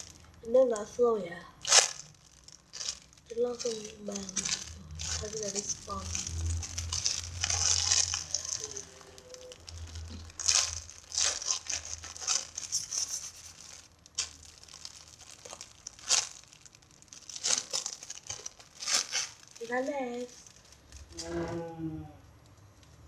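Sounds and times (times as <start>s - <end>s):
squishy toy crinkling: 0.0s - 0.9s, 1.6s - 21.3s.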